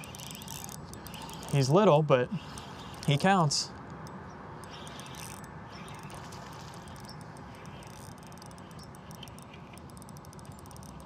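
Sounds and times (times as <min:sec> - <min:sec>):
fishing reel clicking: 0:00.0 - 0:01.7, 0:02.5 - 0:03.2, 0:04.0 - 0:11.0.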